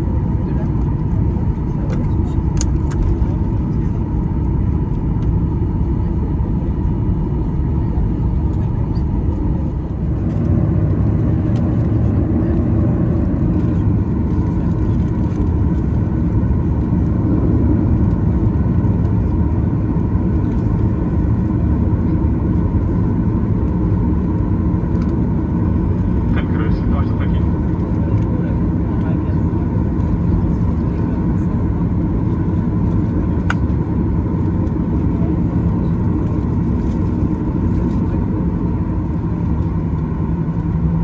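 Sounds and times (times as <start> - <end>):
jet cabin low rumble: 0.0 - 41.0.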